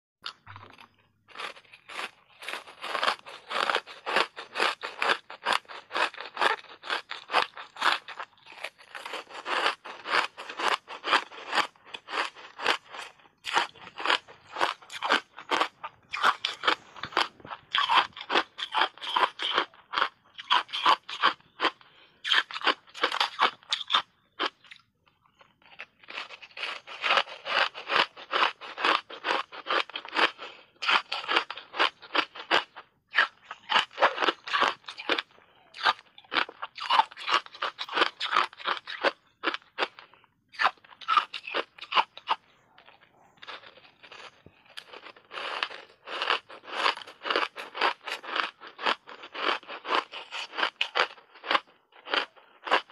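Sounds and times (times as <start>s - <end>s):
ice being chewed crunching: 0.2s - 52.9s.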